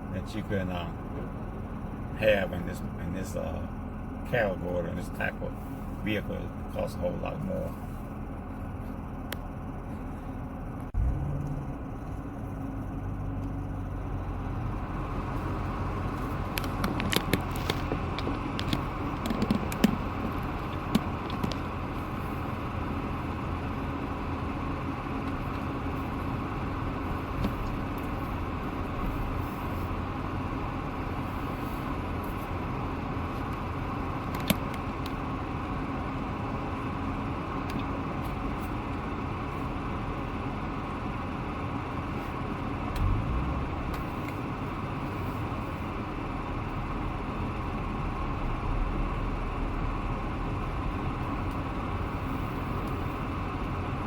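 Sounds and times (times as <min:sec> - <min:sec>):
road and engine noise in car: 0:00.0 - 0:54.0.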